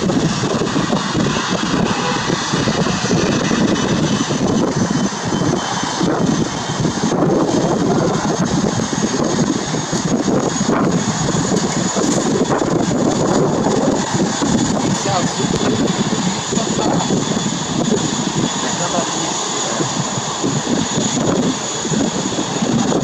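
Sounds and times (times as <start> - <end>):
jet engines taxiing: 0.0 - 23.0.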